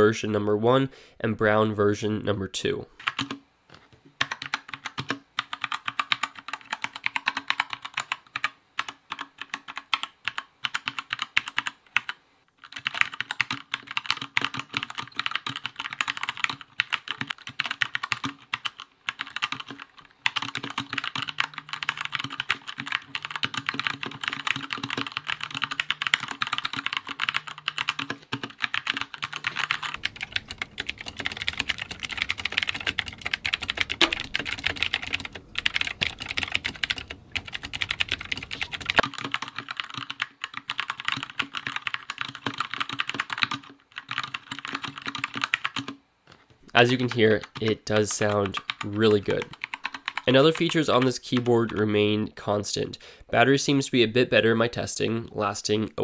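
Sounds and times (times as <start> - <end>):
mechanical keyboard typing: 3.0 - 3.4, 4.2 - 46.0, 46.8 - 51.9.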